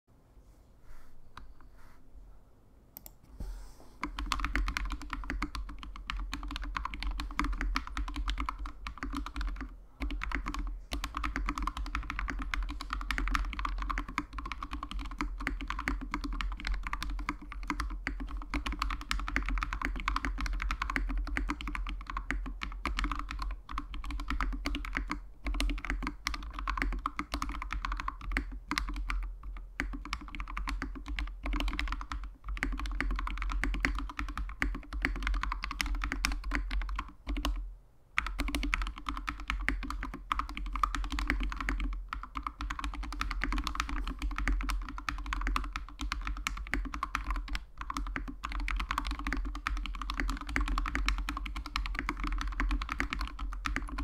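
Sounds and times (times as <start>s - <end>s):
fast typing on mechanical keyboard: 4.0s - 37.6s, 38.2s - 54.0s.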